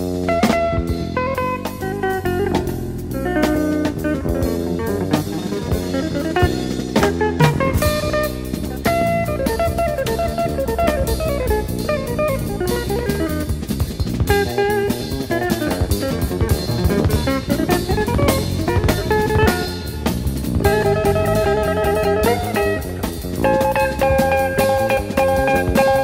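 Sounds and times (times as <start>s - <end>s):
drum kit: 0.0s - 26.0s
jazz guitar single-note runs: 0.0s - 26.0s.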